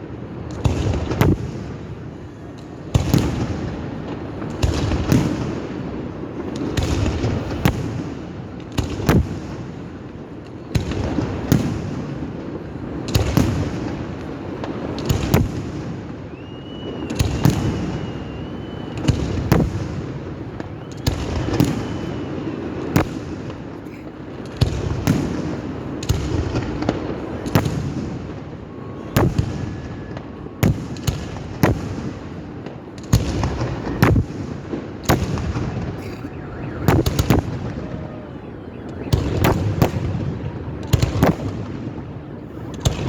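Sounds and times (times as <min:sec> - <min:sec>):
low rumble of explosions: 0:00.0 - 0:43.0.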